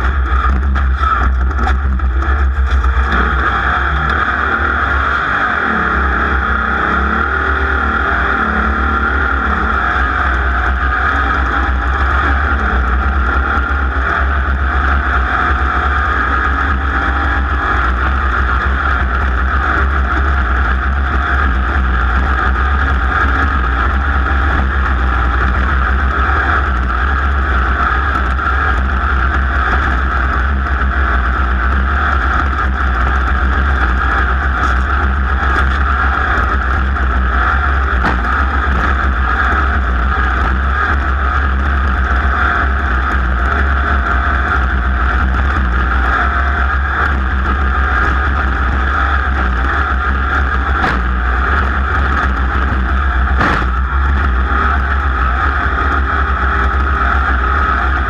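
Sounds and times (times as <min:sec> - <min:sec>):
race car engine running hard: 0:00.0 - 0:58.0
wind and terrain noise: 0:00.0 - 0:58.0.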